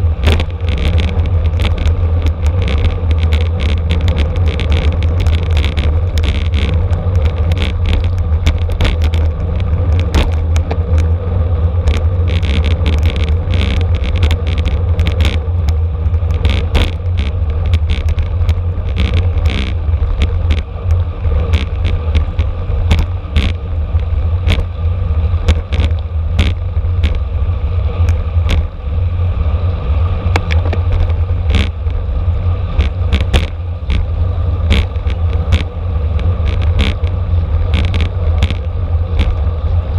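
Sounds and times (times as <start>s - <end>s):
bicycle rattling clicks: 0.0s - 27.2s, 30.3s - 32.0s, 32.7s - 39.5s
road rumble: 0.0s - 39.9s
wind buffeting: 0.0s - 39.9s.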